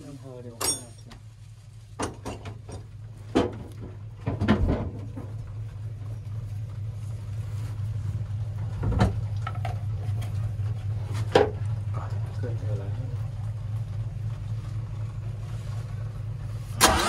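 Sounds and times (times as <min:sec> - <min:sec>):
diesel engine running: 0:01.2 - 0:17.0.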